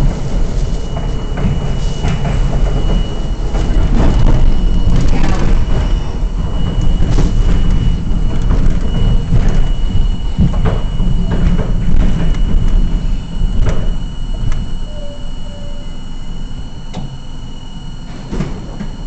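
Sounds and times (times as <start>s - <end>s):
clacks and rattles of rail joints: 0.0s - 16.1s
rumble of wheels on rail: 0.0s - 19.0s
thin high whine: 0.0s - 19.0s.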